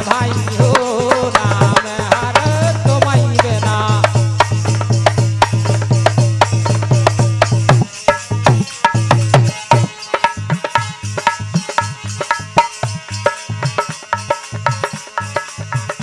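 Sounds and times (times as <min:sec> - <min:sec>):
hand drums fast rhythm: 0:00.0 - 0:16.0.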